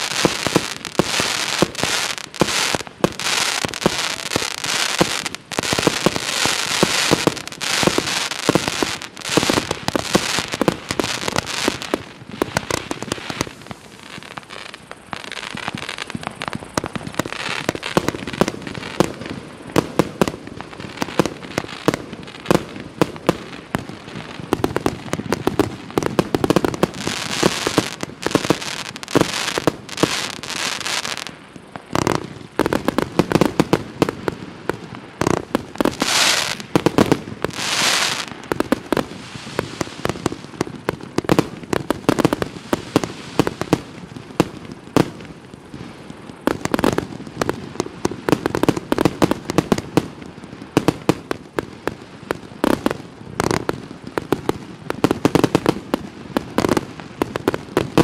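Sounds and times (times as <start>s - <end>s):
firework bursts: 0.0s - 58.0s.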